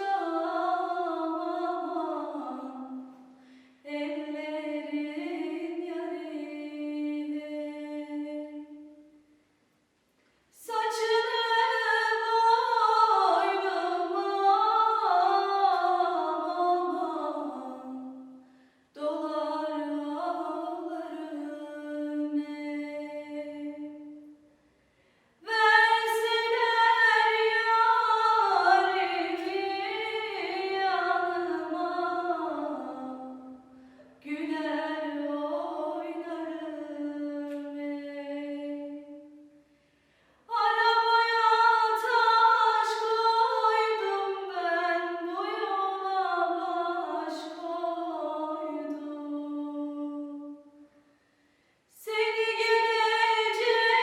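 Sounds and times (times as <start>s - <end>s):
woman singing unaccompanied: 0.0s - 3.0s, 3.9s - 9.0s, 10.6s - 18.2s, 19.0s - 24.2s, 25.4s - 33.6s, 34.2s - 39.3s, 40.5s - 50.7s, 52.0s - 54.0s.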